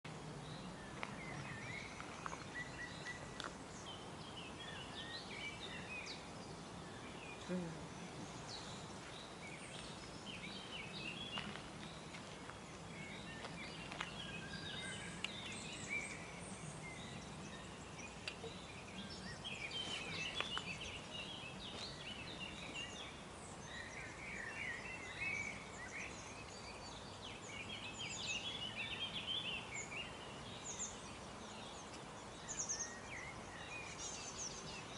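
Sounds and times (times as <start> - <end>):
birds singing and chirping: 0.4 - 34.9.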